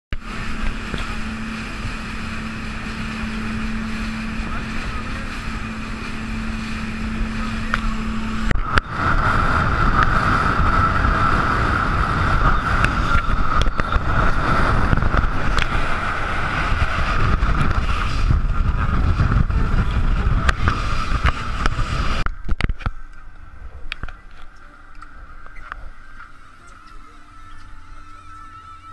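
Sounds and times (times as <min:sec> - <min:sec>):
low hum: 0:00.1 - 0:28.9
motorboat engine: 0:00.1 - 0:28.9
wind: 0:00.1 - 0:28.9
rushing water: 0:00.2 - 0:28.9.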